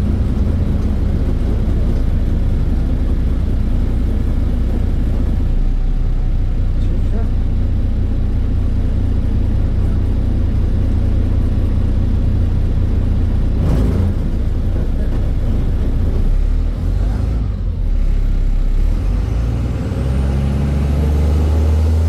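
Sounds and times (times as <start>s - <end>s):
bus engine drone: 0.0s - 22.0s
road noise: 0.0s - 22.0s.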